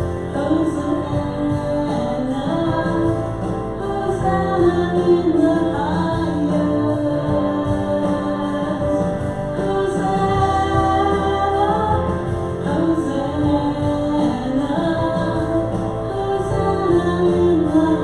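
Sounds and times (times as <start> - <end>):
instrumental accompaniment: 0.0 - 18.0
woman singing worship song: 0.0 - 18.0.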